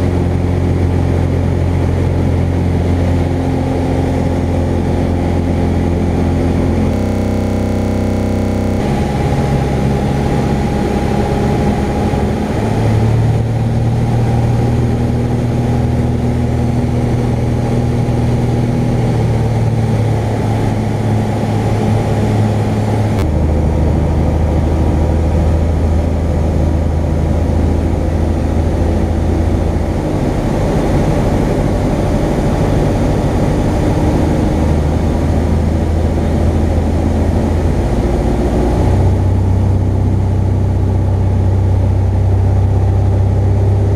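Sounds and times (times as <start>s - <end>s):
light aircraft engine drone: 0.0s - 43.9s.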